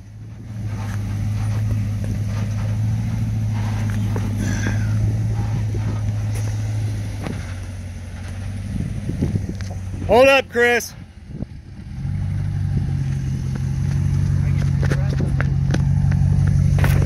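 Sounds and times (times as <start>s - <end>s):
off-road vehicle engine drone: 0.0s - 17.0s.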